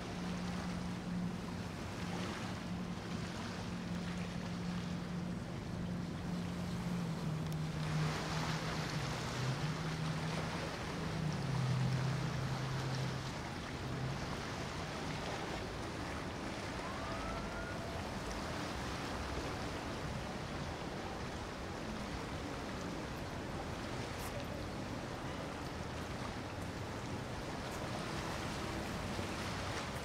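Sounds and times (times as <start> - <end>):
boat engine drone: 0.0 - 30.0
water rushing from hull wake: 0.0 - 30.0.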